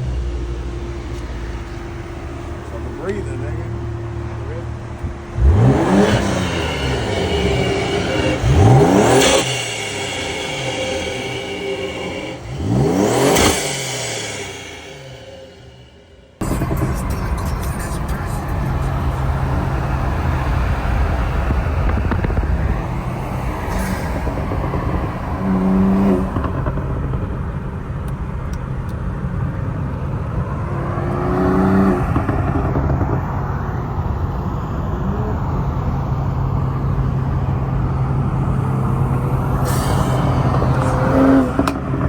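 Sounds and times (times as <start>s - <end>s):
car exhaust note: 0.0s - 42.0s.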